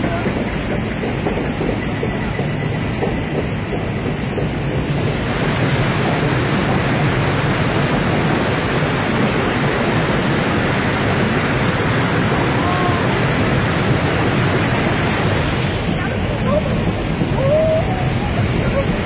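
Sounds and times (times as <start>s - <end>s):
water jets spraying: 0.0s - 19.0s
river rapids rushing: 3.6s - 19.0s.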